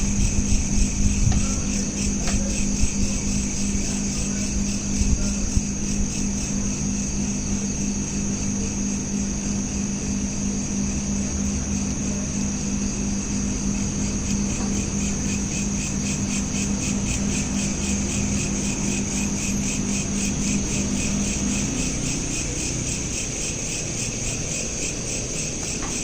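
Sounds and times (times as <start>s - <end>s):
crickets trilling: 0.0s - 26.0s
steady low hum: 0.0s - 26.0s.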